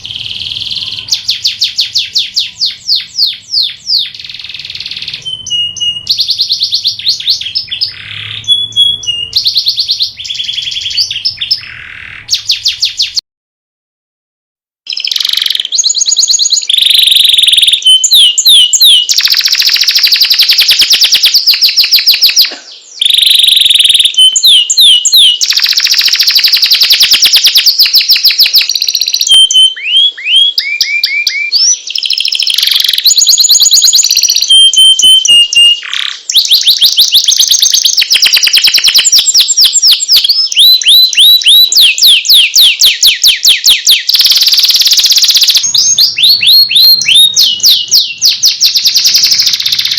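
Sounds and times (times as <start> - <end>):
canary singing trills and whistles: 0.0 - 13.2, 14.9 - 49.9.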